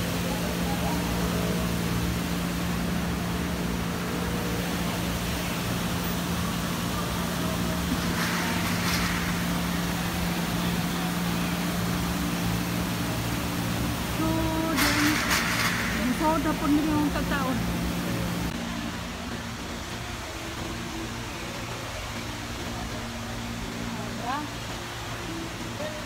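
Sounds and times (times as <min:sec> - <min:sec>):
low mechanical hum: 0:00.0 - 0:26.0
outdoor traffic noise: 0:00.0 - 0:26.0.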